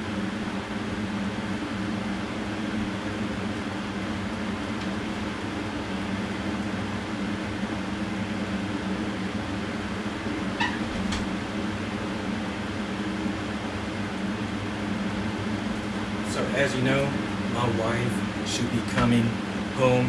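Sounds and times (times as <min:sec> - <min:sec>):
electric fan humming: 0:00.0 - 0:20.0.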